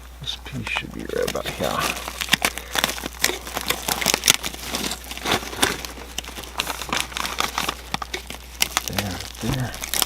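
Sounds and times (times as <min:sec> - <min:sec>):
foil tape crinkling: 0:00.5 - 0:10.0.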